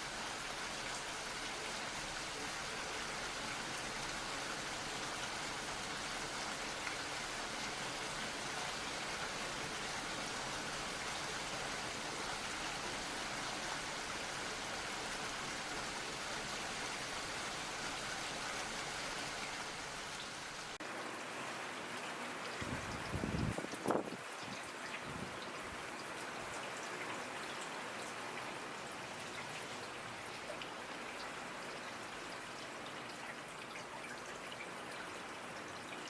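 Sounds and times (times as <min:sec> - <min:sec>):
steady rainfall: 0:00.0 - 0:36.0.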